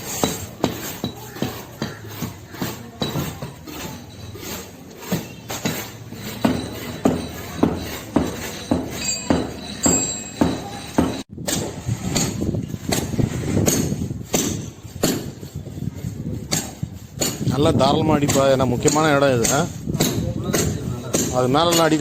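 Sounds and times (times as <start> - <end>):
hand tool knocking masonry: 0.0 - 15.7, 16.4 - 22.0.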